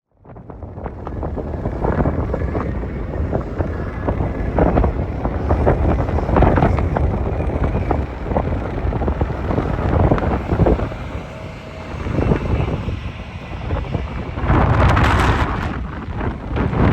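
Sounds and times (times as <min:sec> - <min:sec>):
jet airliner rumble: 0:00.1 - 0:16.9
wind buffeting microphone: 0:00.1 - 0:16.9.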